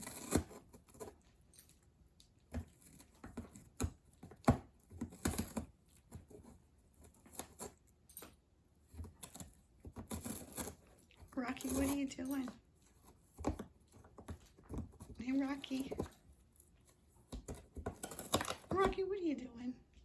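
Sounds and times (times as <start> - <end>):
cat chewing and tearing cardboard: 0.0 - 19.1.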